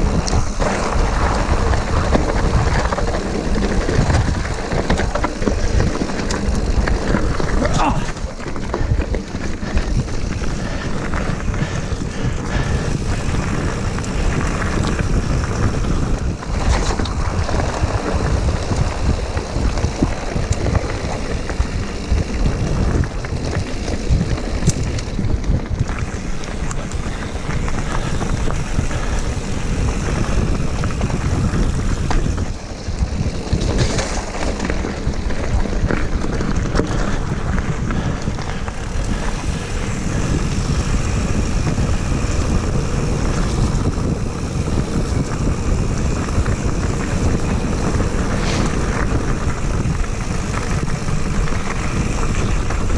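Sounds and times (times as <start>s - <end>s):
bike clicks and knocks: 0.0s - 52.9s
tyre and drivetrain noise: 0.0s - 52.9s
wind on microphone: 0.0s - 52.9s.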